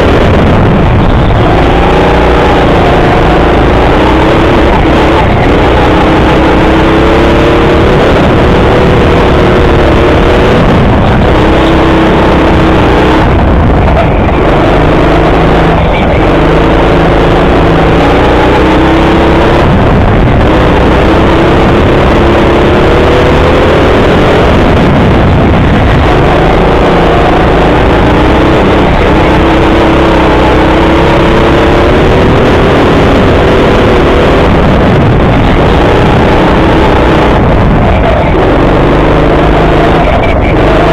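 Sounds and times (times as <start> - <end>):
go-kart motor running: 0.0 - 40.9.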